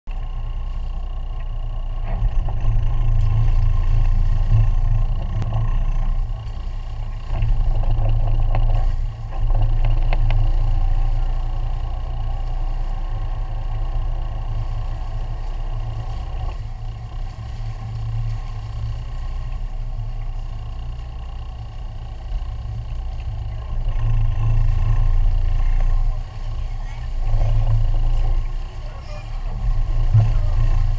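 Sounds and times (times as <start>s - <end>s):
boat engines rumbling: 0.0s - 30.9s.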